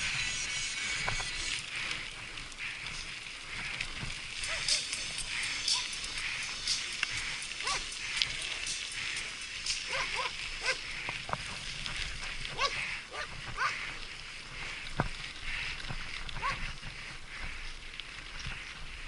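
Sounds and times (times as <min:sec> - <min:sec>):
mountain bike rattling and clicking: 0:00.0 - 0:19.0.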